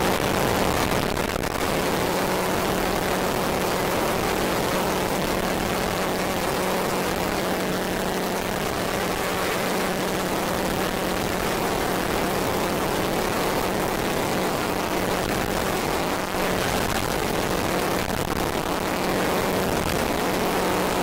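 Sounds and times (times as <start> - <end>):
synthesizer drone: 0.0 - 21.0.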